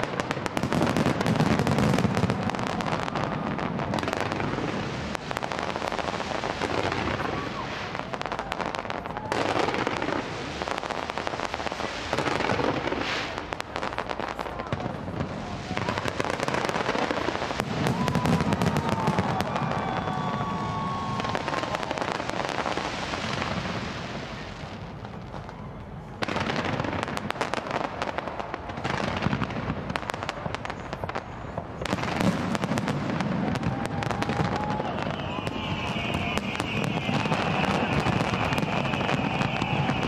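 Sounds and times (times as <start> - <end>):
faint firework whistles: 0.0 - 40.0
fireworks crackling and popping: 0.0 - 40.0.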